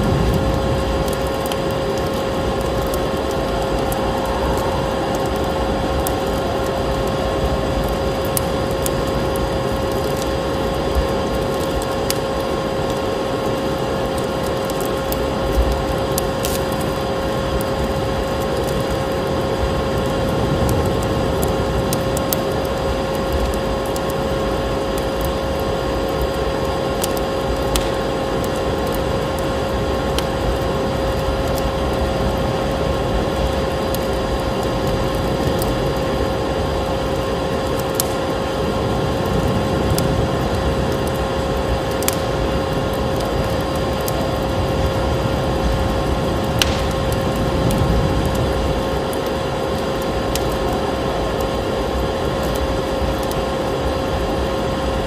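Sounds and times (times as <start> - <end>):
constant hum: 0.0 - 55.0
steady rushing noise: 0.0 - 55.0
wood fire crackling: 0.0 - 55.0.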